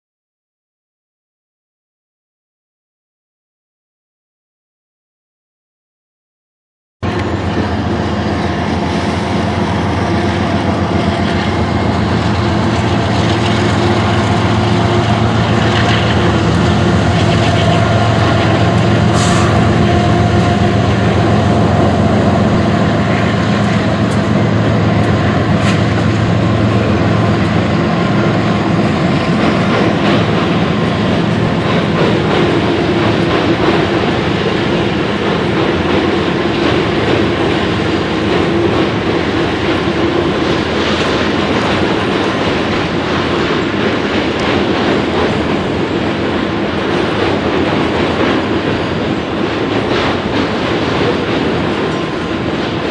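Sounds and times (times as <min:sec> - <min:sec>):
diesel locomotive engine drone: 0:07.0 - 0:52.9
freight cars rumbling on rails: 0:07.0 - 0:52.9.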